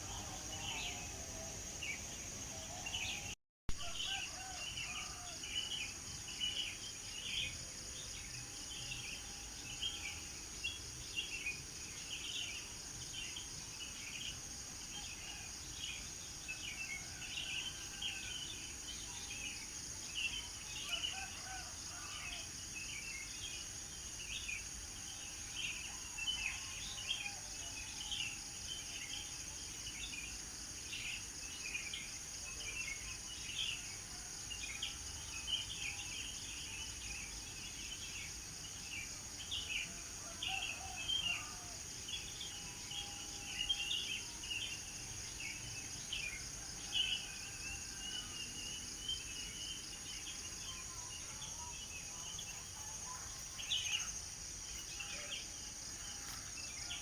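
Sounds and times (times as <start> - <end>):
insect trill: 0.0 - 57.0.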